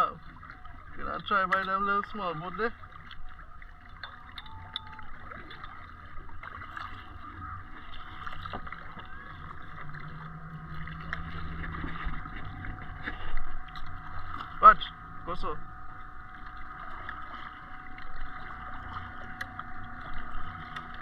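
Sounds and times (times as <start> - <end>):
low steady hum: 0.0 - 21.0
water noise: 0.0 - 21.0
wind rumbling on microphone: 3.0 - 21.0.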